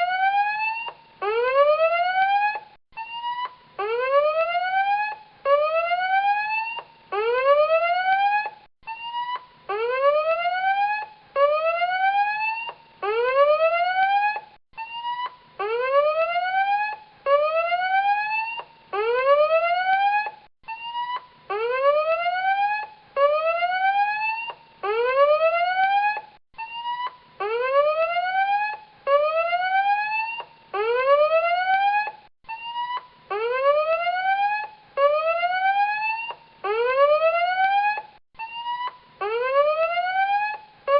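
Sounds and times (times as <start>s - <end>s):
whooping warning siren: 0.0s - 40.9s.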